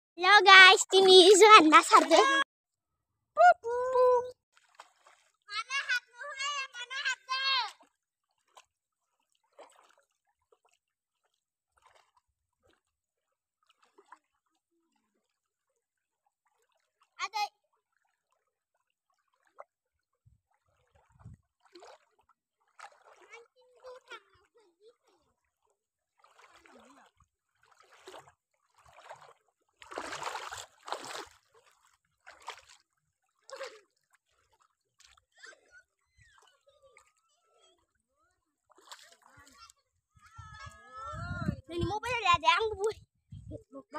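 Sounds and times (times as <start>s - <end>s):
faint water sloshing: 0.5s - 2.4s, 3.7s - 43.1s.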